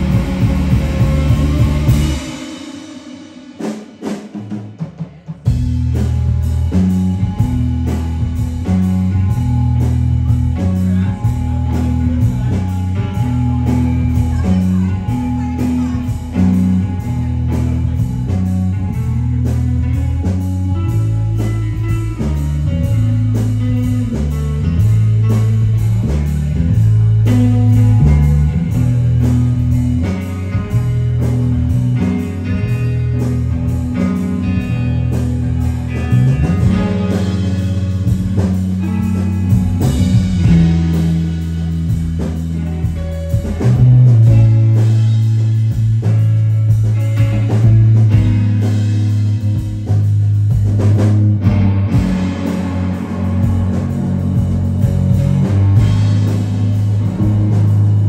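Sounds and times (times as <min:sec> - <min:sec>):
low held bass notes: 0:00.0 - 0:03.4, 0:05.4 - 0:58.0
drum kit: 0:00.0 - 0:58.0
electric guitars: 0:00.0 - 0:58.0.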